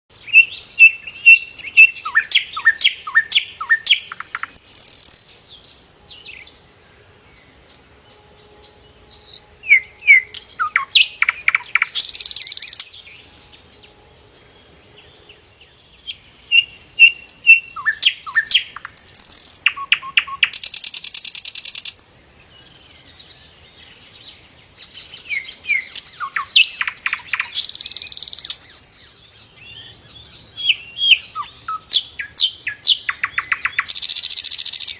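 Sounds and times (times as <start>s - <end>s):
bird whistled notes and buzzy trills: 0.1s - 34.9s.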